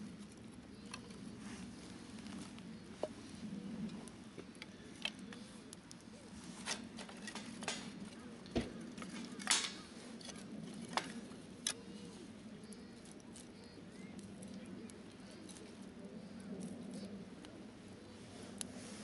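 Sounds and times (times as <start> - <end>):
campfire crackling and popping: 0.0 - 17.8.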